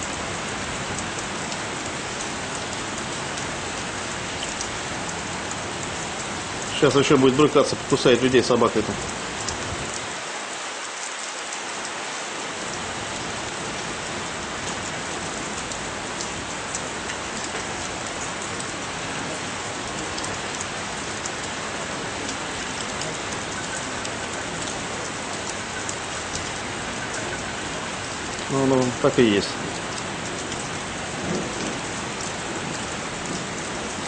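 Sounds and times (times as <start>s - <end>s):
heavy rain hissing: 0.0s - 34.0s
rain drops ticking: 0.0s - 34.0s.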